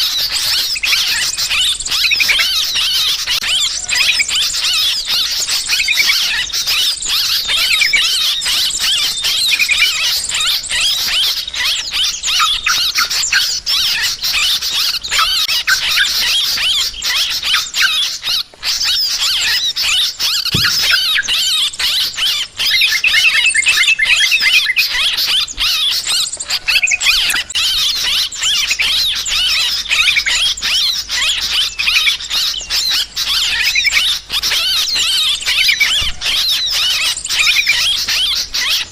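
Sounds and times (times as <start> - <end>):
birds chattering: 0.0 - 38.9.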